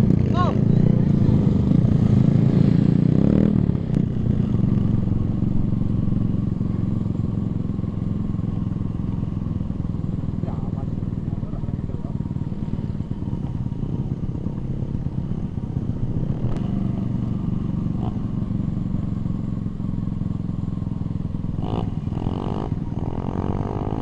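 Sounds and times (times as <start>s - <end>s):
motorcycle engine under throttle: 0.0s - 24.0s.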